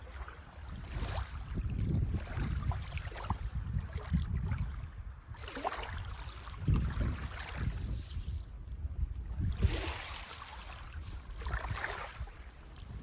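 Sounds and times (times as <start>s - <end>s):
sea waves washing on sand: 0.0s - 13.0s
wind buffeting the microphone: 0.0s - 13.0s.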